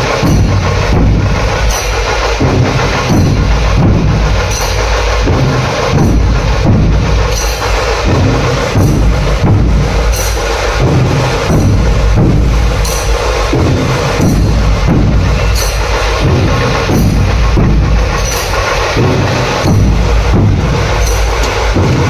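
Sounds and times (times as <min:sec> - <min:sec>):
barrel drums drumming: 0:00.0 - 0:22.0.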